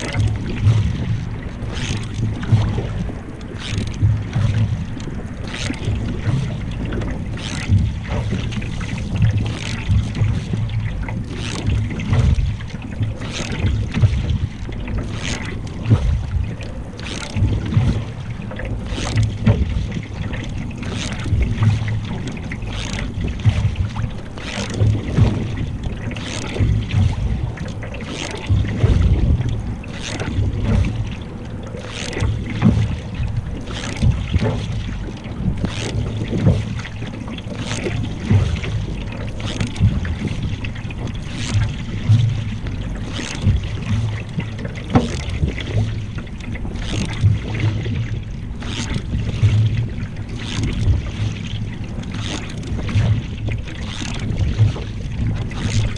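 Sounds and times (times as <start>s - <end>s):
paddle strokes splashing in water: 0.0s - 55.9s
wind rumble on microphone: 0.0s - 55.9s.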